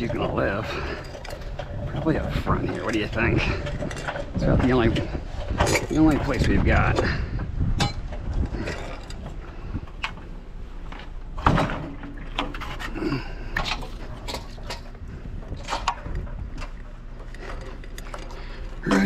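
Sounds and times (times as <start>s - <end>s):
steady low hum: 0.0s - 19.0s
water heater knocking and scraping: 0.0s - 19.0s.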